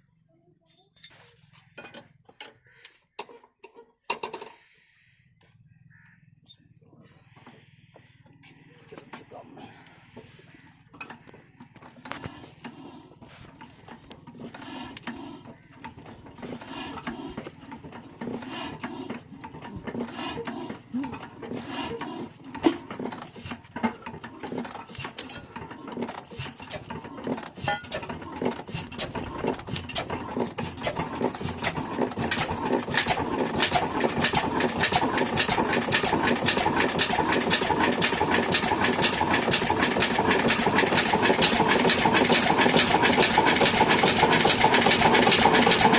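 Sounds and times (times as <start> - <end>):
diesel engine starting up: 7.3 - 45.9.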